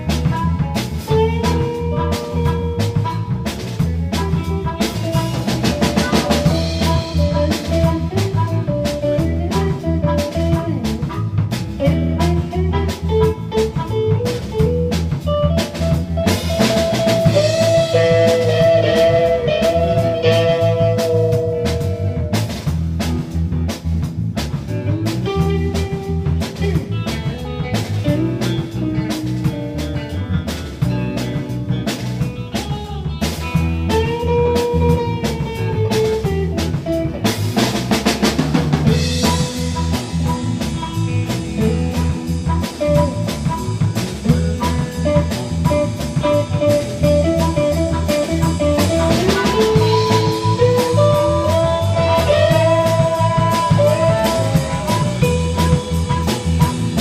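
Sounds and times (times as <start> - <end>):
drum kit beat: 0.0 - 57.0
electric guitar lead: 0.0 - 57.0.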